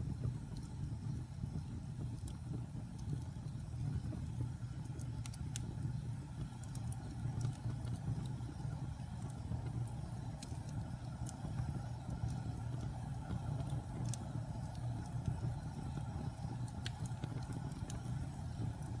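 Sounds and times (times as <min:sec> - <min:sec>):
fire crackling: 0:00.0 - 0:19.0
fire rumbling in fireplace: 0:00.0 - 0:19.0.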